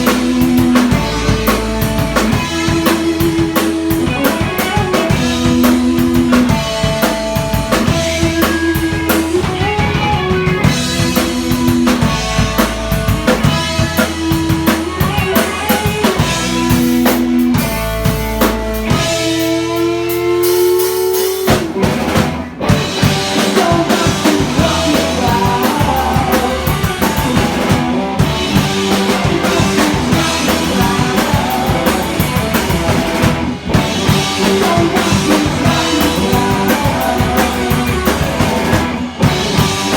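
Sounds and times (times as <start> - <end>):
drum kit: 0.0 - 39.9
rock band playing live: 0.0 - 39.9.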